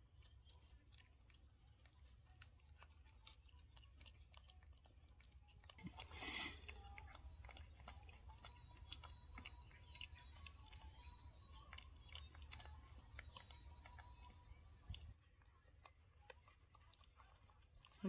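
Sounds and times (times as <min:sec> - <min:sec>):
monkey chewing bread: 0:00.0 - 0:18.0.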